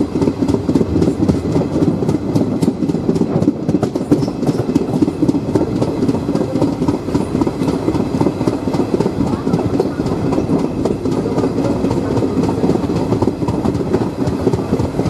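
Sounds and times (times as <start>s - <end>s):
train rumble: 0.0s - 15.0s
wheels clattering over rail joints: 0.0s - 15.0s.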